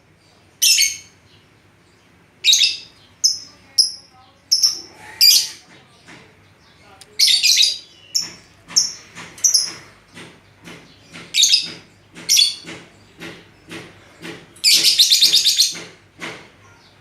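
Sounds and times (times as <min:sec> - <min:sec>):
lovebirds chirping: 0:00.0 - 0:15.9.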